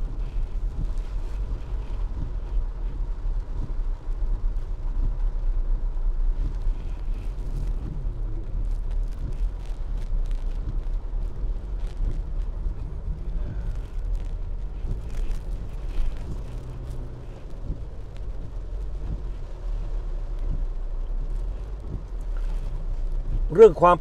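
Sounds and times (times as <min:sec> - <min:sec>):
car rumble on wet road: 0:00.0 - 0:24.0
raindrops ticking on windshield: 0:00.0 - 0:24.0.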